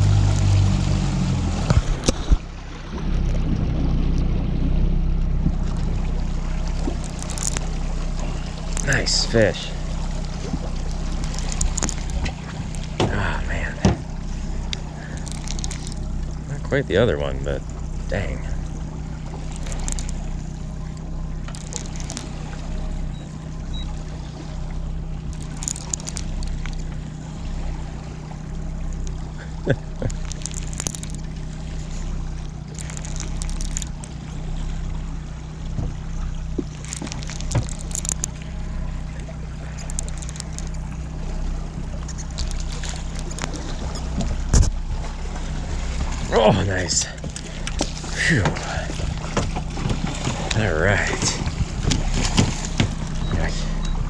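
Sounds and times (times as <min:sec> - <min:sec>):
short splashes: 0:00.0 - 0:16.6, 0:17.4 - 0:54.0
outboard motor humming: 0:00.0 - 0:54.0
water lapping against hull: 0:00.0 - 0:54.0.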